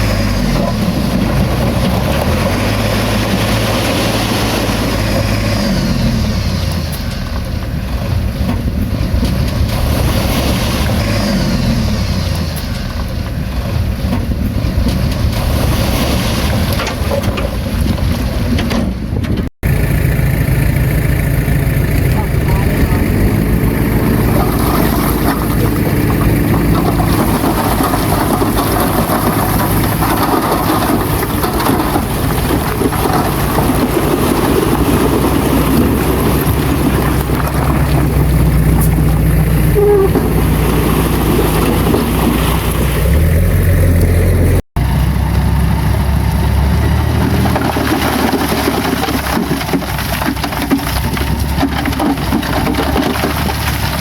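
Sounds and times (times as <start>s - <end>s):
bulldozer diesel engine running: 0.0s - 54.0s
noisy clatter: 0.0s - 54.0s.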